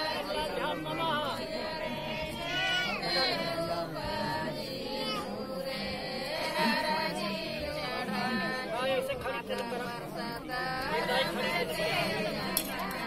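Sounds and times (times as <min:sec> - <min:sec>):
crowd murmuring: 0:00.0 - 0:13.0
voices singing a devotional chant: 0:00.0 - 0:13.0.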